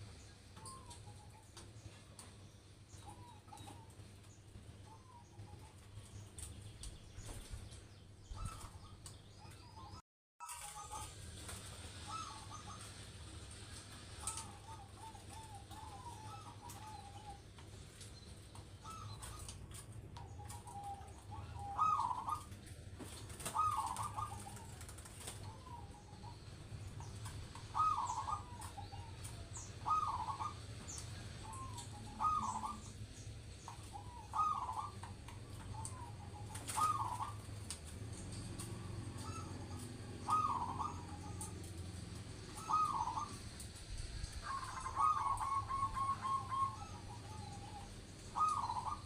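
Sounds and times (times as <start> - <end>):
dove cooing: 8.3 - 17.9, 18.6 - 43.7, 44.3 - 49.0.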